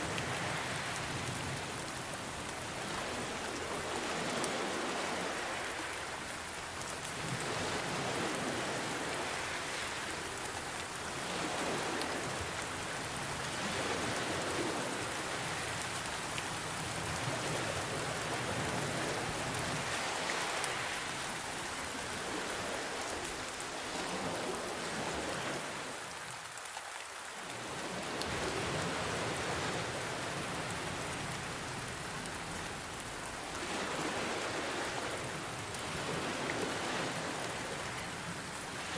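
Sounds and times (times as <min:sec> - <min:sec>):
ocean waves washing in: 0:00.0 - 0:26.4, 0:27.6 - 0:38.9.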